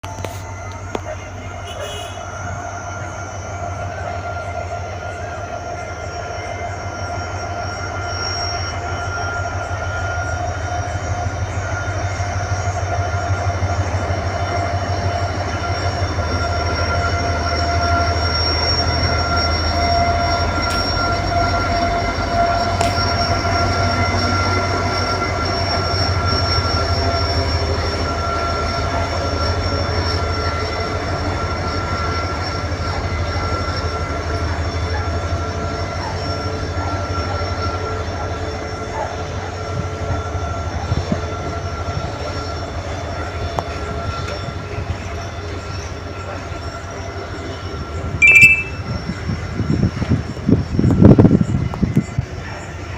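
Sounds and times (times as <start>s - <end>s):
diesel locomotive humming: 0.0s - 52.9s.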